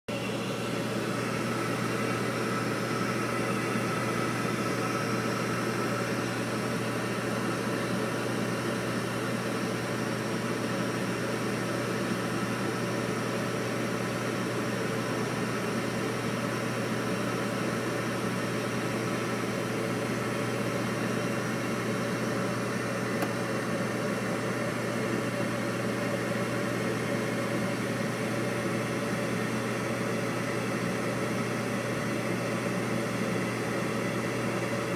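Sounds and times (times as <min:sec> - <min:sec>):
furnace running: 0:00.1 - 0:34.9.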